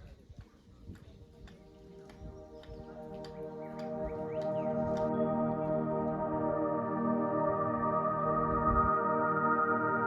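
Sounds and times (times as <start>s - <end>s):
slow ambient music: 0.7s - 10.0s.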